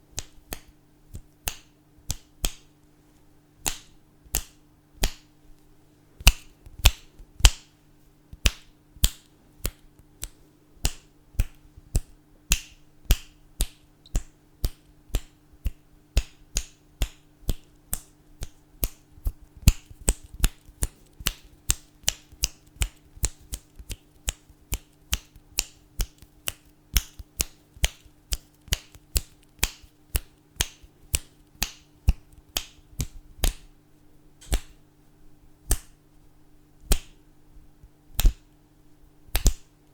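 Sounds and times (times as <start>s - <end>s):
fingers snapping: 0.2s - 2.7s, 3.6s - 5.3s, 6.2s - 7.7s, 8.3s - 33.7s, 34.4s - 34.8s, 35.7s - 36.0s, 36.8s - 37.2s, 38.1s - 38.5s, 39.3s - 39.7s.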